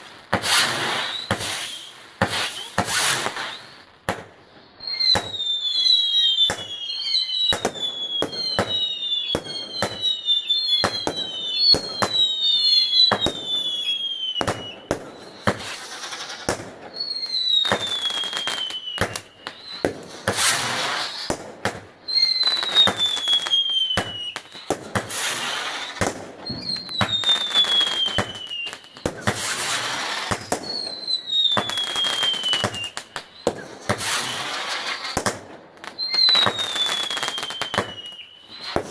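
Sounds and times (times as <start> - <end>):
fireworks bangs: 0.0 - 38.9
fireworks crackling: 0.0 - 38.9
fireworks whistling: 0.0 - 38.9.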